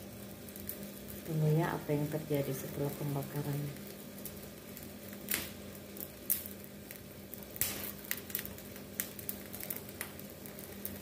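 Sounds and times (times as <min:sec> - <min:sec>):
crackling and popping over flame: 0:00.0 - 0:11.0
gas stove hiss: 0:00.0 - 0:11.0.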